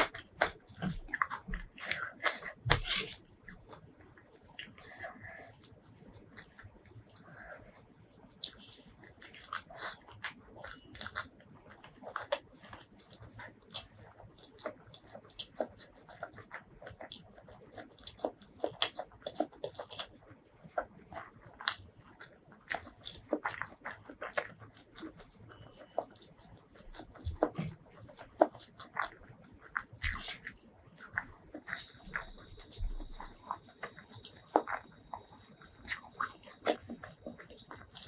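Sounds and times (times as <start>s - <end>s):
chewing with light crunching: 0.0s - 38.0s.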